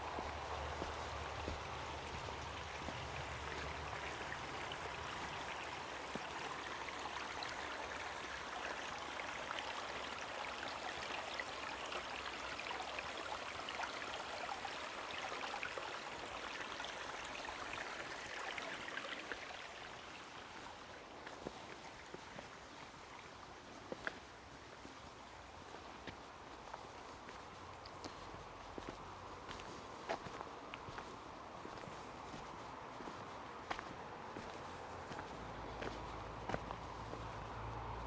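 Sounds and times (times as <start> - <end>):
stream running over stones: 0.0 - 38.0.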